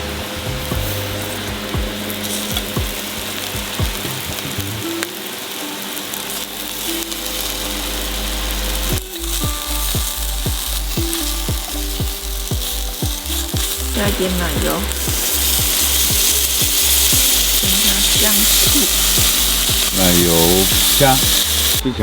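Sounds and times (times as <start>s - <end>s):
shrimp sizzling in hot oil: 0.0s - 21.9s.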